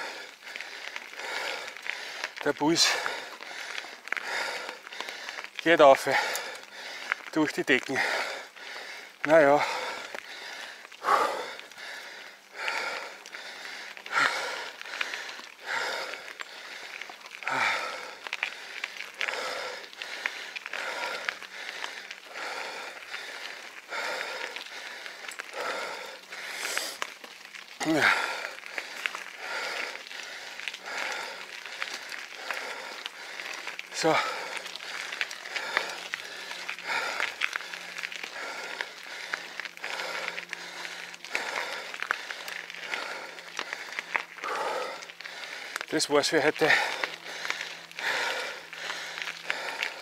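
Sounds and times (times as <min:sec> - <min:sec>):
person panting heavily: 0:00.0 - 0:27.1, 0:27.8 - 0:50.0
sharp clicks and crackles: 0:00.0 - 0:50.0.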